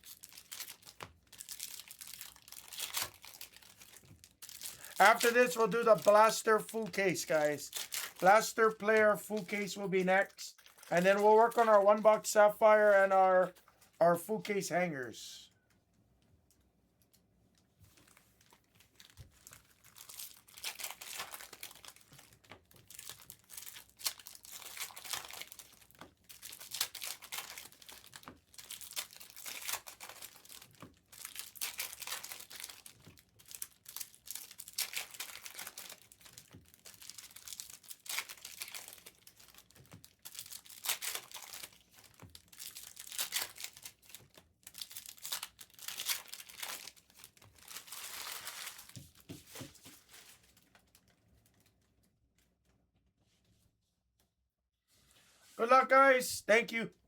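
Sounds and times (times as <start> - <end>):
plastic wrappers crinkling and ripping: 0.0 - 14.0, 17.0 - 52.1.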